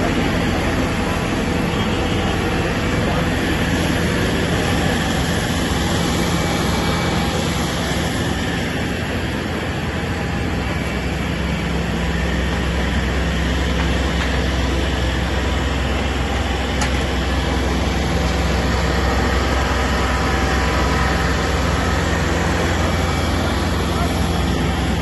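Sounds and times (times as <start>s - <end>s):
heavy engine running: 0.0s - 25.0s.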